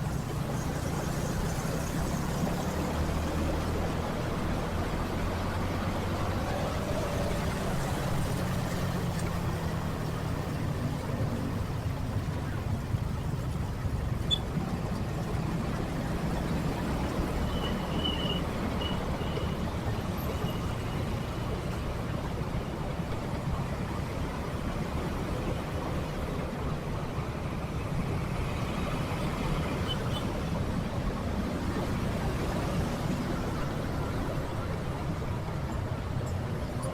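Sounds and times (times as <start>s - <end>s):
car and truck engines: 0.0s - 36.9s.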